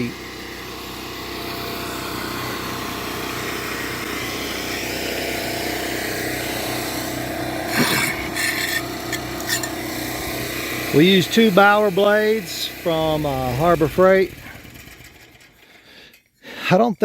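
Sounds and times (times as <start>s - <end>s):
concrete saw cutting concrete: 0.0s - 16.1s.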